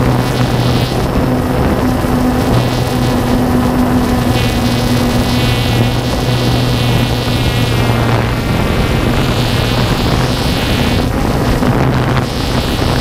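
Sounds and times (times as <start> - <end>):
small aircraft engine humming: 0.0 - 13.0
wind rushing across microphone: 0.0 - 13.0.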